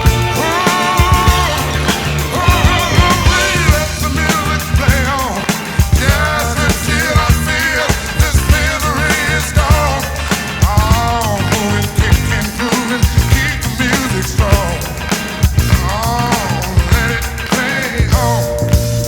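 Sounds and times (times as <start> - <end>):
rock song with singing: 0.0 - 19.0
steady drum beat: 0.0 - 19.0.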